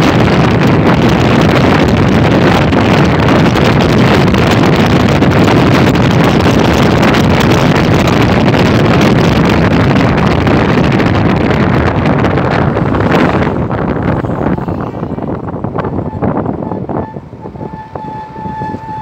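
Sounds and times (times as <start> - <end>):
motorcycle road noise: 0.0 - 19.0
wind buffeting microphone: 0.0 - 19.0.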